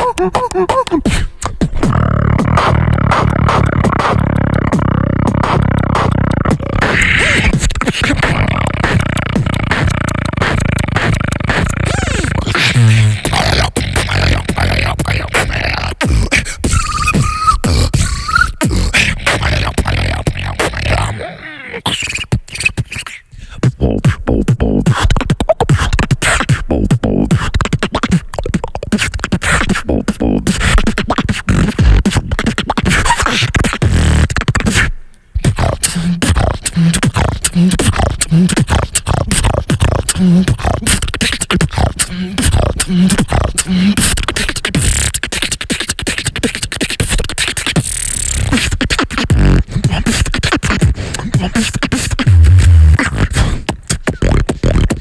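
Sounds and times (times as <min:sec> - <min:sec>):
beatboxing into microphone: 0:00.0 - 0:55.0.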